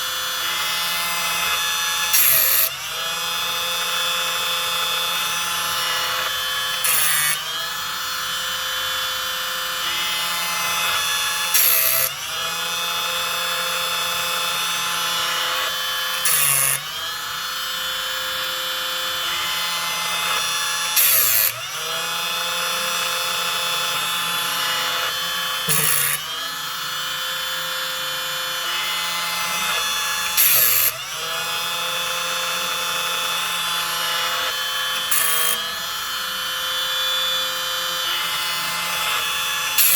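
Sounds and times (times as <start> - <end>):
chainsaw sharpener motor running: 0.0 - 39.9
grinding wheel rasping on metal: 0.0 - 39.9.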